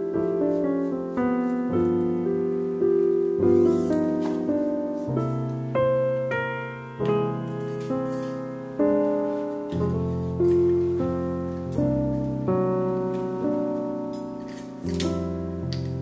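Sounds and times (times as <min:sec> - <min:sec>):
piano chords ringing: 0:00.0 - 0:16.0.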